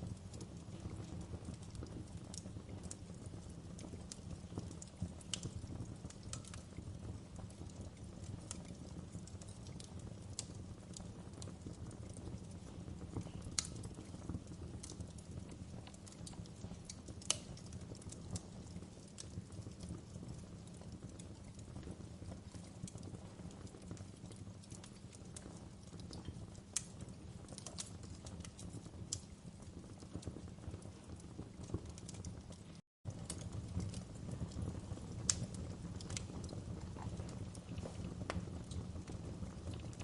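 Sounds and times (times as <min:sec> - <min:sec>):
burning logs crackling and popping: 0:00.0 - 0:40.0
low rumble of flames: 0:00.0 - 0:40.0.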